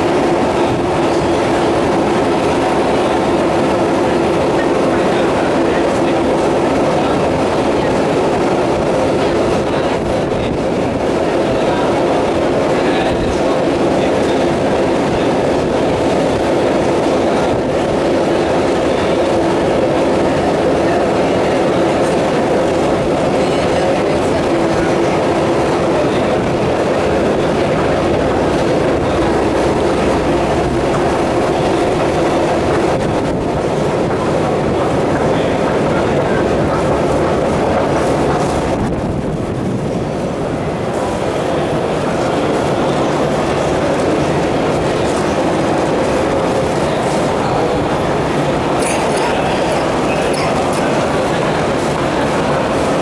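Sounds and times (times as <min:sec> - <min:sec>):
escalator rumbling and rattling: 0:00.0 - 0:53.0.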